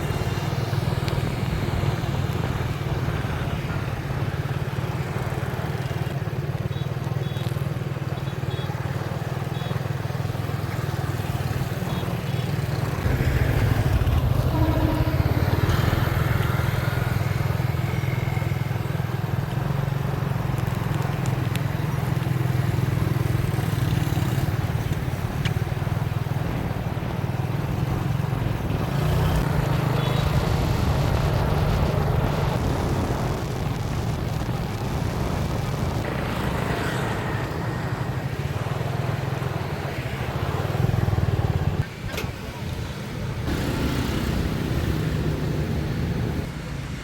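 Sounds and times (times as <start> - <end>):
road and wind noise: 0.0 - 47.0.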